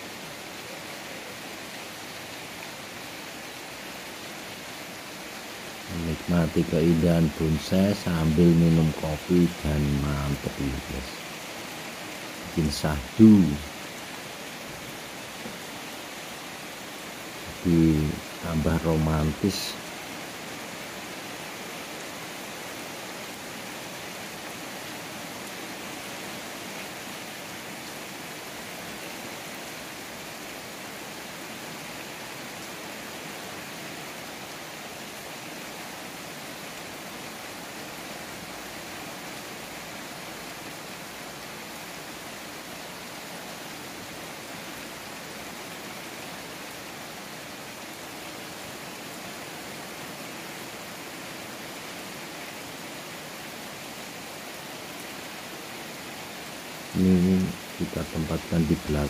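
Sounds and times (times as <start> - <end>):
rain on wet paving: 0.0 - 59.0.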